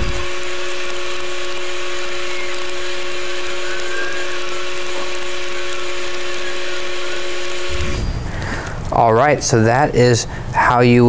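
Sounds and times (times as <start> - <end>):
tape fast-forward whirring: 0.0 - 8.9.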